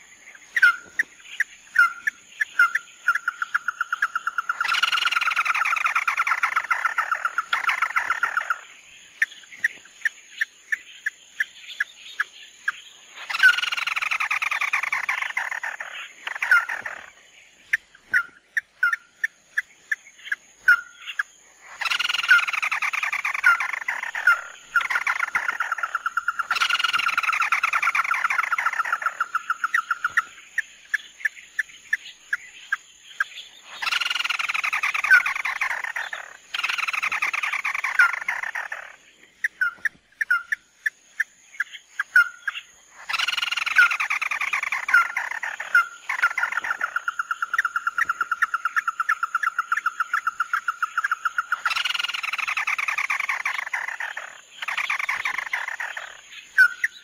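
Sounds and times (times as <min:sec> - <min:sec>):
crake calling with rattling trills: 0:00.0 - 0:57.0.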